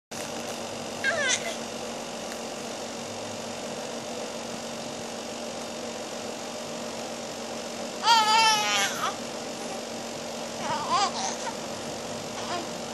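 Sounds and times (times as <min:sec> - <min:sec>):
background hum: 0:00.1 - 0:12.9.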